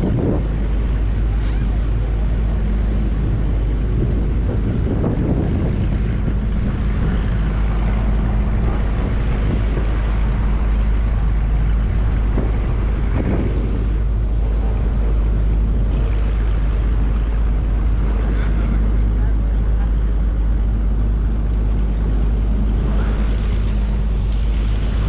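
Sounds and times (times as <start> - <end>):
engine humming steadily: 0.0 - 25.0
wind buffeting microphone: 0.0 - 25.0.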